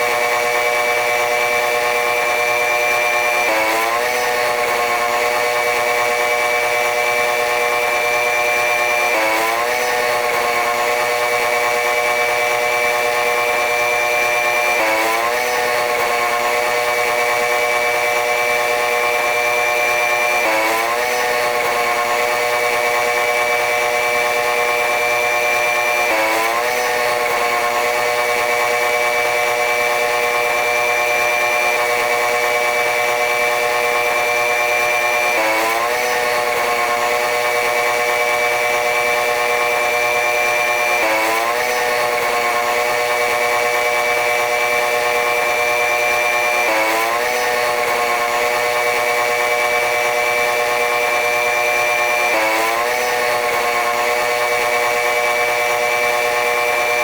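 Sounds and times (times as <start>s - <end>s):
train motor whine: 0.0s - 57.0s.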